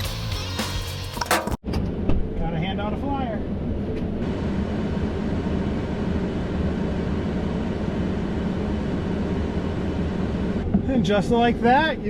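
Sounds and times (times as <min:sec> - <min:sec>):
moving vehicle low rumble: 0:01.6 - 0:12.0.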